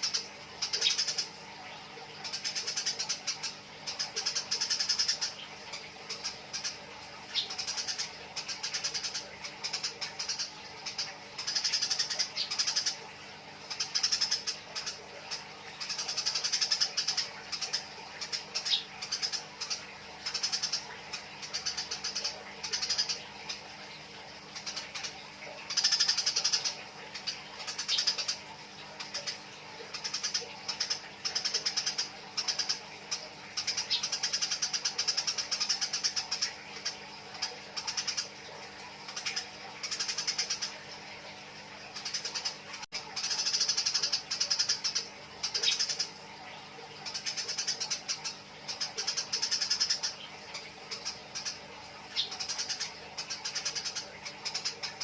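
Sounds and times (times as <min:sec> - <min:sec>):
sparrows chattering: 0:00.0 - 0:55.0.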